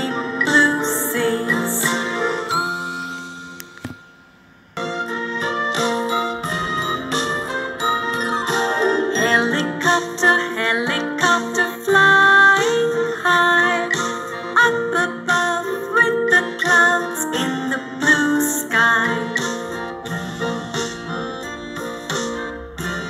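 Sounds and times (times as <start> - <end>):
children's music with bright tune: 0.0 - 23.0.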